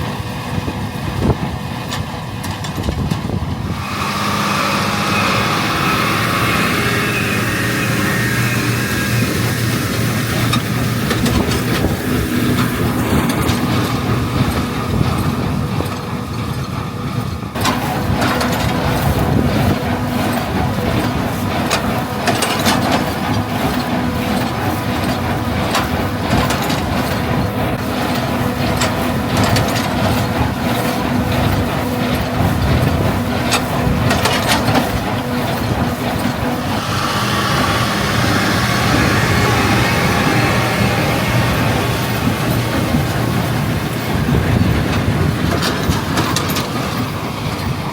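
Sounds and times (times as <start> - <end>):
diesel tractor engine running: 0.0 - 47.9
mechanical clatter and knocks: 0.7 - 3.9, 5.2 - 47.9.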